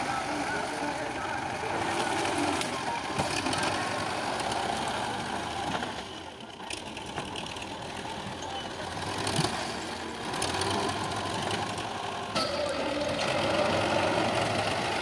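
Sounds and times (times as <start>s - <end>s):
loader clattering: 0.0s - 15.0s
tractor engine running: 0.0s - 15.0s.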